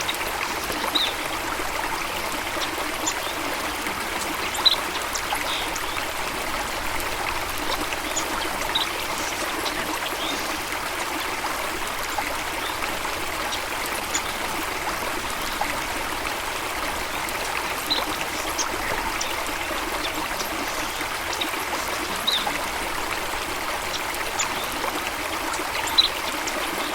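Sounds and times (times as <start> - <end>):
stream water flowing: 0.0 - 26.9.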